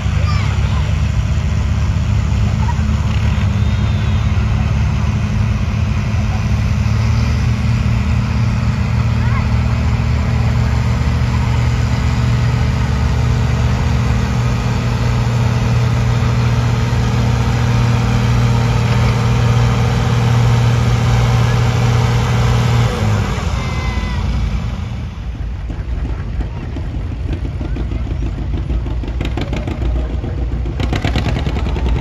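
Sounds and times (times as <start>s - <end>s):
tractor engine running hard: 0.0s - 32.0s.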